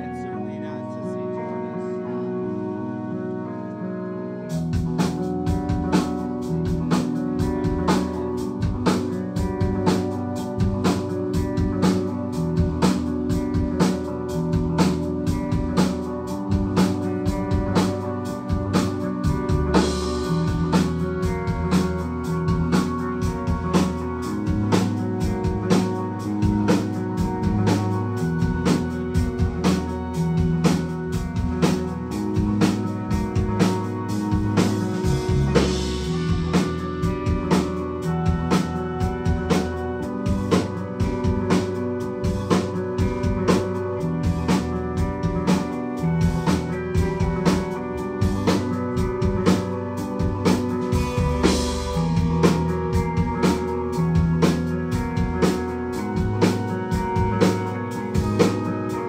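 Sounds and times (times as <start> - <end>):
electric guitars: 0.0 - 59.0
keyboards: 0.0 - 59.0
drum kit beat: 4.5 - 59.0.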